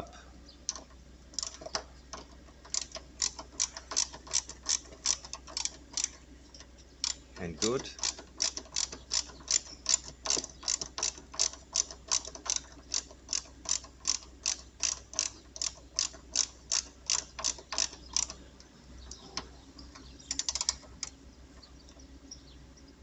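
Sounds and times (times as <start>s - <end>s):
hand tool clicking: 0.7s - 18.4s, 20.3s - 21.1s.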